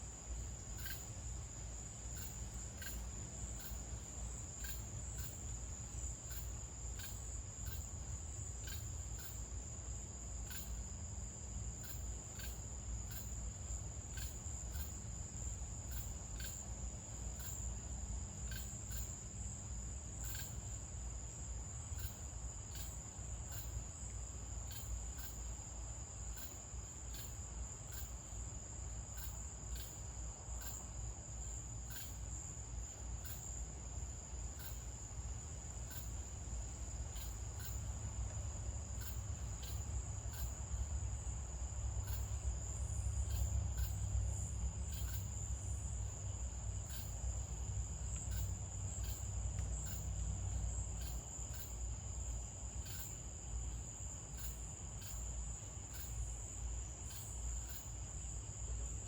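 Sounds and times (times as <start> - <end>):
crickets trilling and chirping: 0.0 - 59.0.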